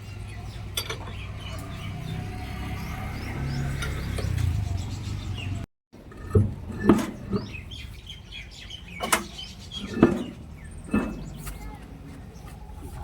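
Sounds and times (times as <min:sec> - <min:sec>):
birds chirping: 0:00.0 - 0:05.7, 0:06.7 - 0:13.0.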